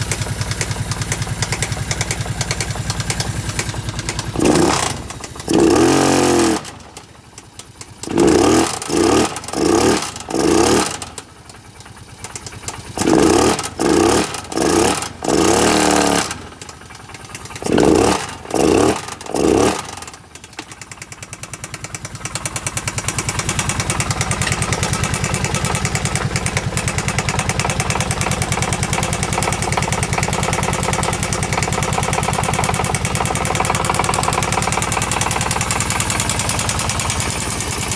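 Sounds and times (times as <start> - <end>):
engine revving and idling: 0.0 - 11.4, 12.6 - 20.4, 21.3 - 37.9
loud engine knocking: 0.0 - 37.9.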